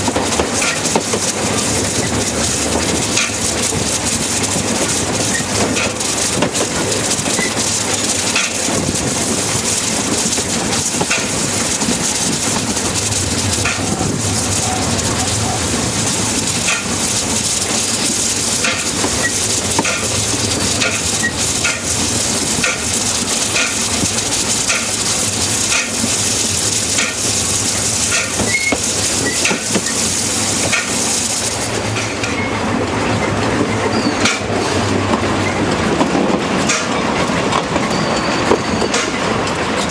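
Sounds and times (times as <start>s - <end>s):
steam train running hiss: 0.0s - 39.9s
wheels clicking over rail joints: 0.0s - 39.9s.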